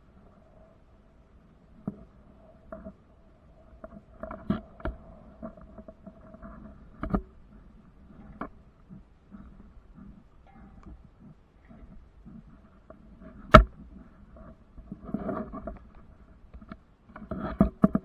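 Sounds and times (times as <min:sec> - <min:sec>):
faint steady tone: 0:00.0 - 0:18.0.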